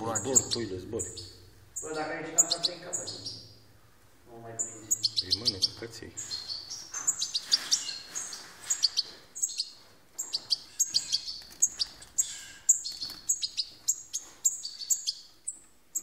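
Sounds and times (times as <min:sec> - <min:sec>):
bird chicks chirping rapidly: 0:00.0 - 0:16.0.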